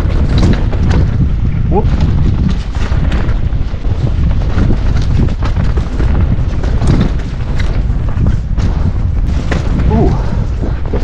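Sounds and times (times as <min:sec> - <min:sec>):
bike rattles and knocks: 0:00.0 - 0:11.0
wind rumble on microphone: 0:00.0 - 0:11.0.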